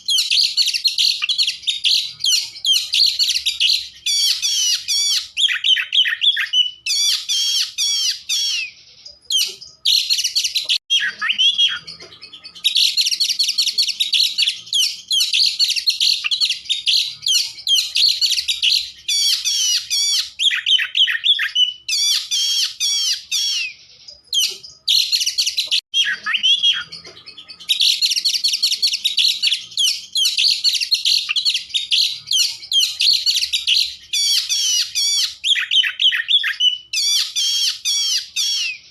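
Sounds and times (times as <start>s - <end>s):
bird singing high-pitched song: 0.0s - 38.9s.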